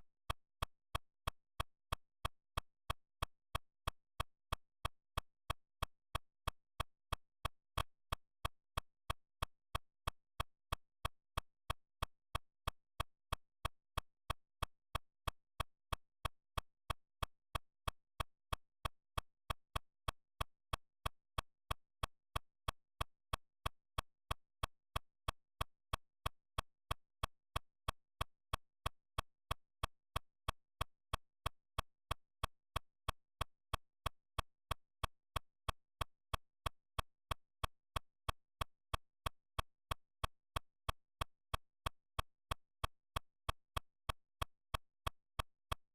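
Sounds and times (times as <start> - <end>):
sharp evenly spaced clicks: 0.0 - 45.9.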